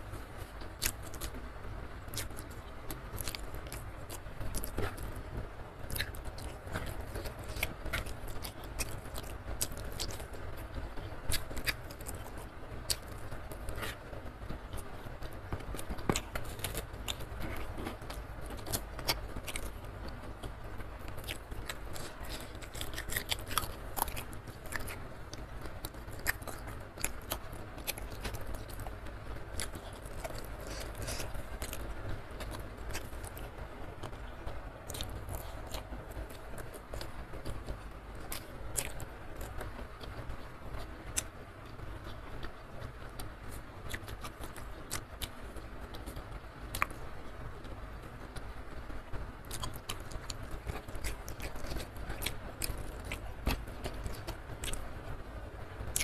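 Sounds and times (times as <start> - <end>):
person chewing with wet clicks: 0.0 - 48.5, 49.4 - 55.2, 55.8 - 56.0
low steady hum: 0.0 - 56.0.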